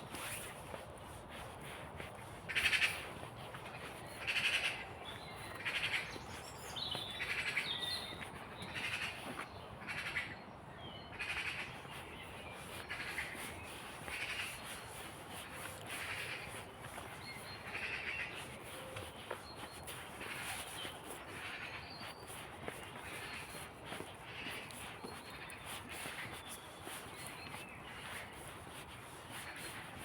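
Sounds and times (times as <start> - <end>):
small birds chirping: 1.7 - 30.0.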